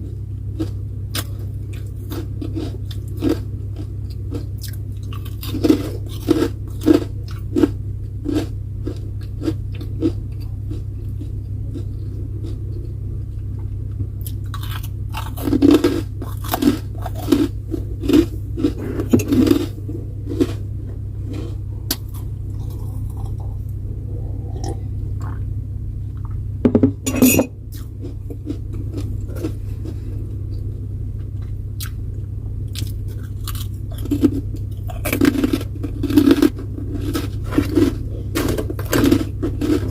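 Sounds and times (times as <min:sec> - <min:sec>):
person chewing and crunching food: 0:00.0 - 0:39.9
steady low hum: 0:00.0 - 0:39.9.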